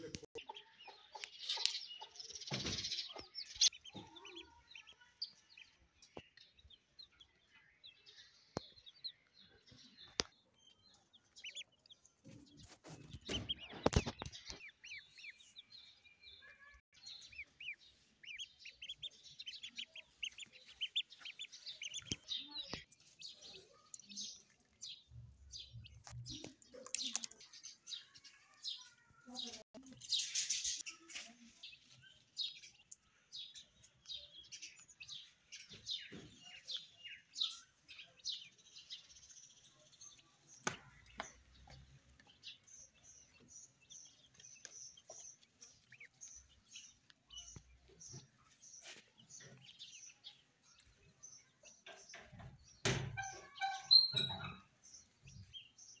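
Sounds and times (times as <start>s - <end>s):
ducklings peeping: 0.0s - 27.9s, 29.9s - 56.0s.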